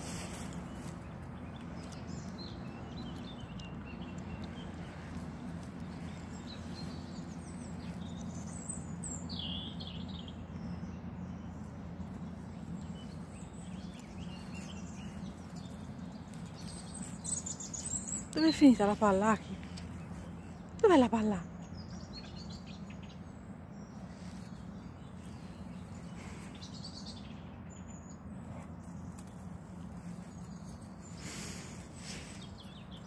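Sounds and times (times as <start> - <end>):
low background rumble: 0.0 - 33.0
small birds chirping: 0.0 - 33.0.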